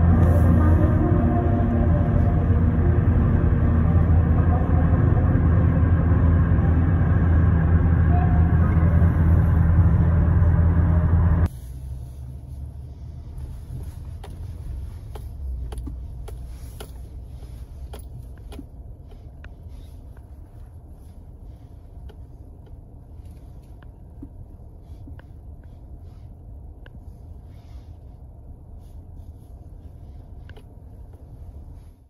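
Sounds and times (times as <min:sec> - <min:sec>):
truck engine and tyres rumbling: 0:00.0 - 0:32.0.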